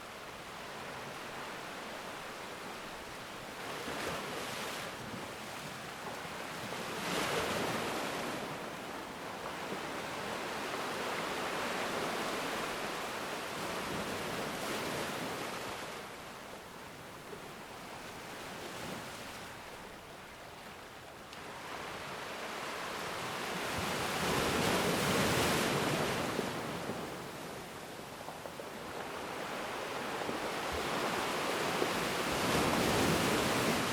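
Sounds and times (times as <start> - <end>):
ocean waves washing on shore: 0.0 - 33.9.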